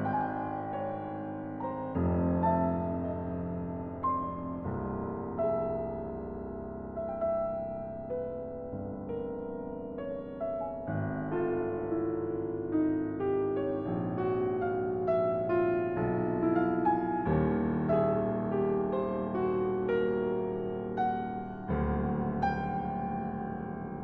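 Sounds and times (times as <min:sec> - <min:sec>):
piano low chords: 0:00.0 - 0:24.0.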